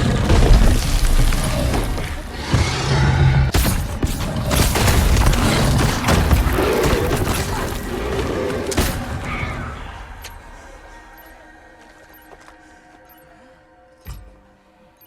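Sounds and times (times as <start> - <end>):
film soundtrack music: 0.0 - 15.0.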